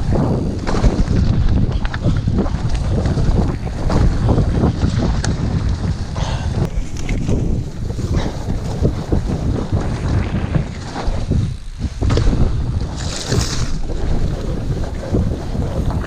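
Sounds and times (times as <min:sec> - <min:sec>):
bike knocking over bumps: 0:00.0 - 0:16.0
mountain bike rumble and rattle: 0:00.0 - 0:16.0
wind buffeting microphone: 0:00.0 - 0:16.0.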